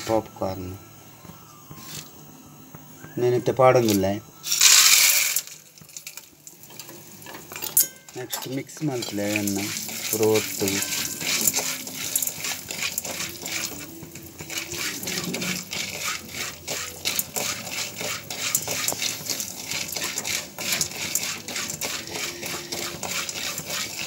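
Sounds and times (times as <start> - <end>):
kernels rattling in a pan: 3.8 - 24.0.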